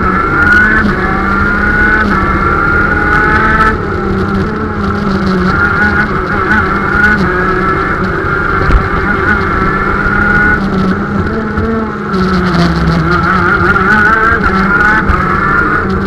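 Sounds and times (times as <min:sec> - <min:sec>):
kart engine revving high: 0:00.0 - 0:16.0.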